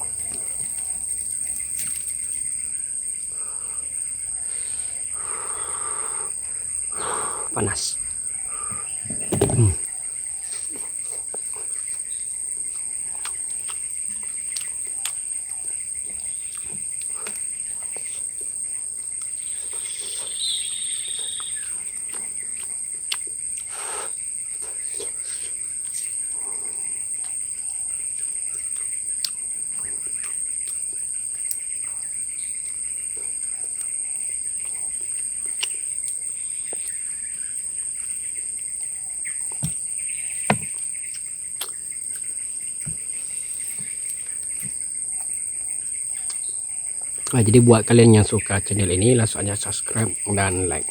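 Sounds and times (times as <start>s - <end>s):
bird chirp: 0.0s - 50.9s
high-pitched insect drone: 0.0s - 50.9s.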